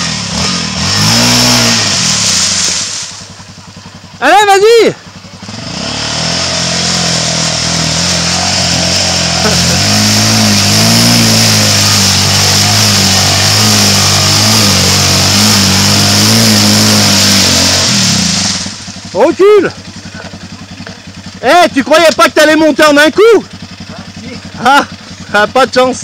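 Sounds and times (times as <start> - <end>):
wheels spinning in mud and water: 0.0 - 4.1, 5.0 - 26.0
quad engine revving: 0.0 - 26.0.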